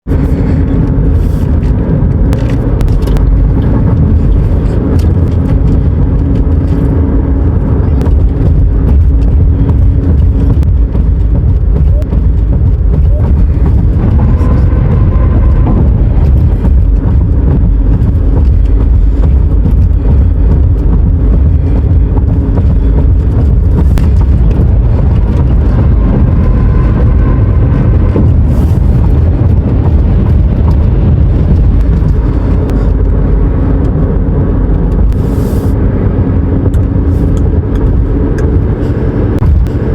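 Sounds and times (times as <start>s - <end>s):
highway traffic rumble: 0.0s - 39.9s.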